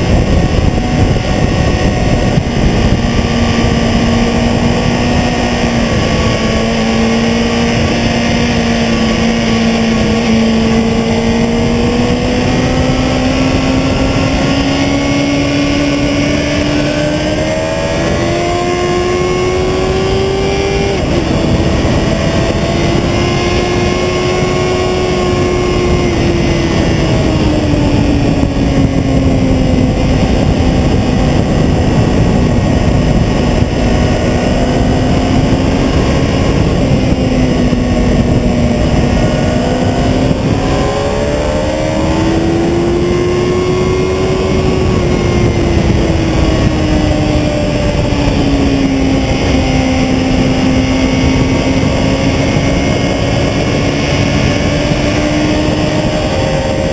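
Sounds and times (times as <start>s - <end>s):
motorcycle engine running hard: 0.0s - 56.9s
wind rush: 0.0s - 56.9s.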